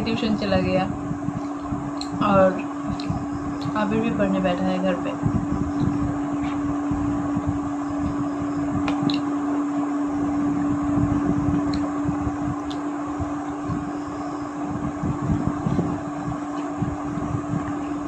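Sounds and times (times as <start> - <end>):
air rumbling on microphone: 0.0 - 18.0
electric fan humming: 0.0 - 18.0.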